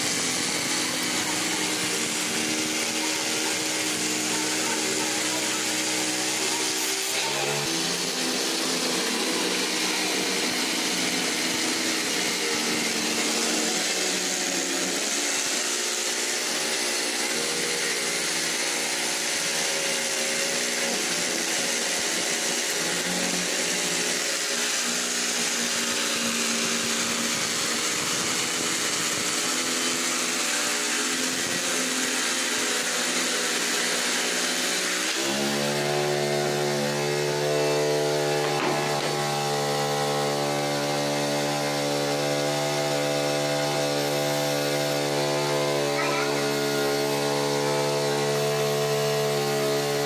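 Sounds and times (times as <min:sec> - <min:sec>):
electric jigsaw cutting board: 0:00.0 - 0:50.0.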